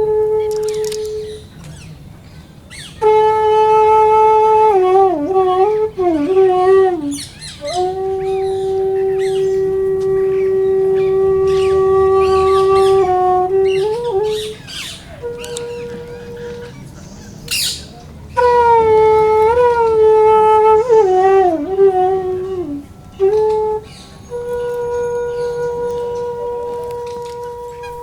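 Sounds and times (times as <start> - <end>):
wind instrument music: 0.0 - 28.0.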